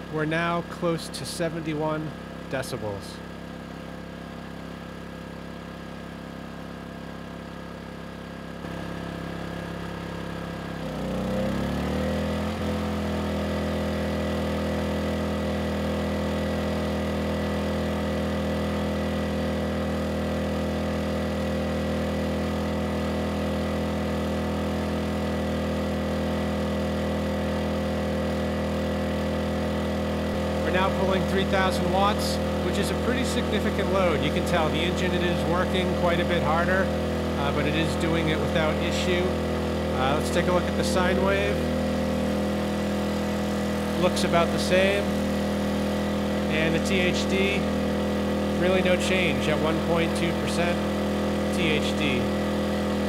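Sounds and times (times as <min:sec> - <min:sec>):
generator running under load: 0:00.0 - 0:53.0.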